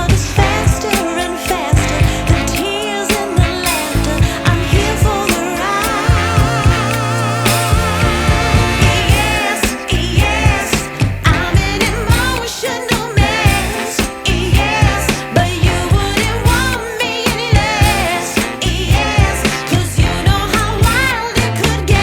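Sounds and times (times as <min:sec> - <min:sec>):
pop music with singing: 0:00.0 - 0:22.0.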